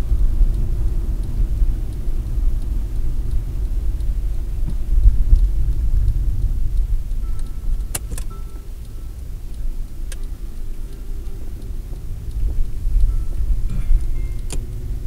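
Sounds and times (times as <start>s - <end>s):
car engine and tyre rumble: 0.0s - 15.0s
sharp clicks: 1.2s - 15.0s.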